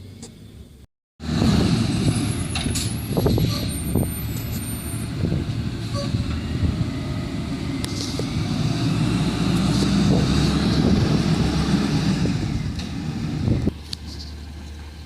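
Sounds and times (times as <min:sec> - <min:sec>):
garbage truck engine revving: 0:01.2 - 0:13.7.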